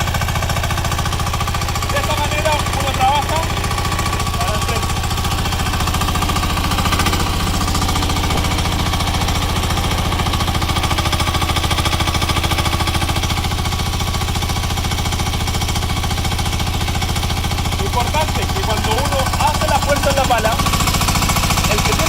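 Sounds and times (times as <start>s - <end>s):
small engine pulsing: 0.0s - 22.0s.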